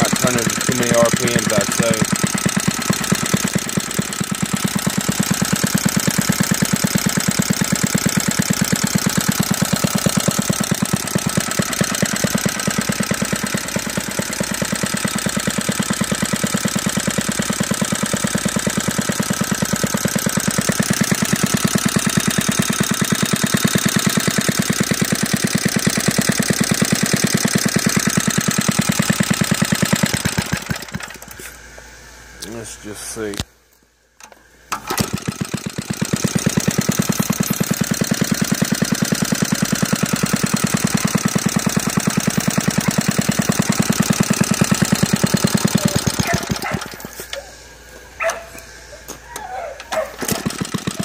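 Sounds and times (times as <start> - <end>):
small engine running slowly: 0.0 - 33.4, 34.4 - 51.0.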